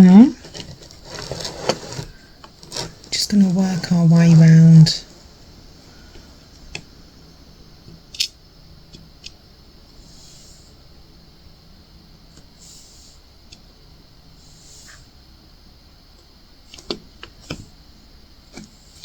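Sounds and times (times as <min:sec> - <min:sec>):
faint hiss: 0:01.7 - 0:19.0.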